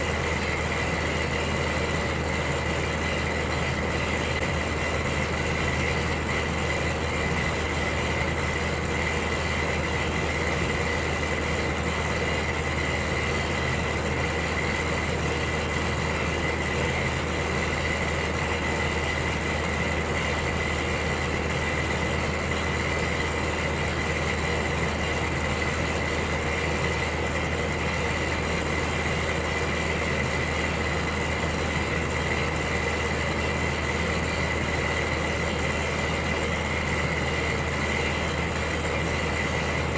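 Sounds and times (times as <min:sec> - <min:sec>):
electric heater humming: 0:00.0 - 0:39.9.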